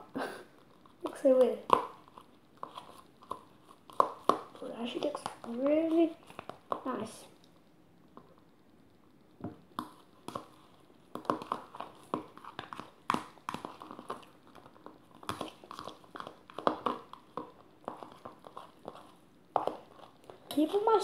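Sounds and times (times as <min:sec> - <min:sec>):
squishing of fruit: 0:00.0 - 0:21.0.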